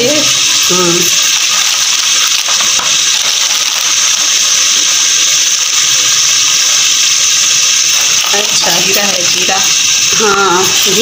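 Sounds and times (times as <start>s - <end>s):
curry sizzling in a pot: 0.0s - 11.0s.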